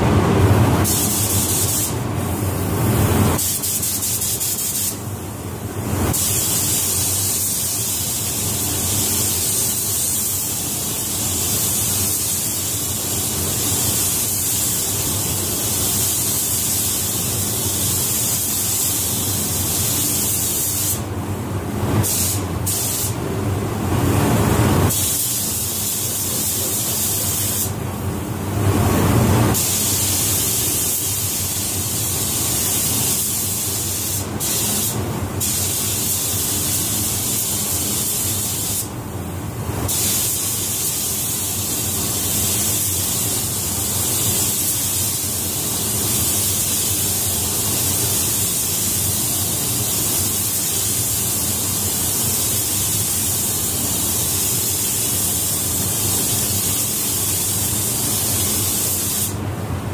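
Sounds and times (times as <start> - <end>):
spray gun hissing: 0.8 - 5.1, 6.0 - 21.1, 22.0 - 23.2, 24.9 - 27.8, 29.5 - 38.9, 39.9 - 59.4.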